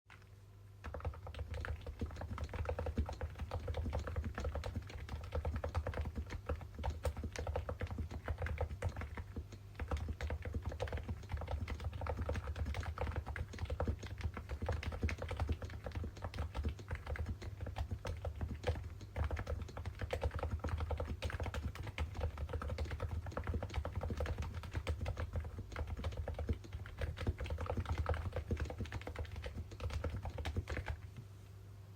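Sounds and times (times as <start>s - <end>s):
keyboard typing: 0.1s - 31.2s.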